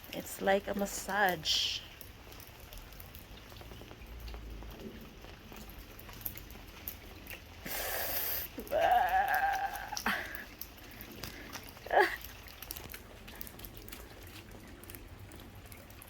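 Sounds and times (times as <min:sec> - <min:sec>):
light rain patter: 0:00.0 - 0:16.0.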